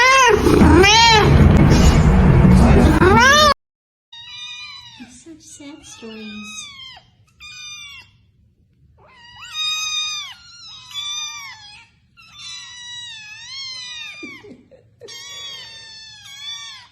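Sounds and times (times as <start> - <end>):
cat meowing: 0.0 - 1.4, 3.0 - 3.6, 4.2 - 8.3, 9.0 - 16.9.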